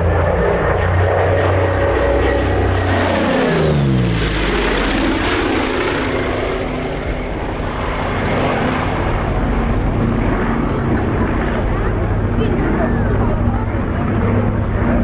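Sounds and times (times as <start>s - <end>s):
propeller plane flypast: 0.0s - 15.0s.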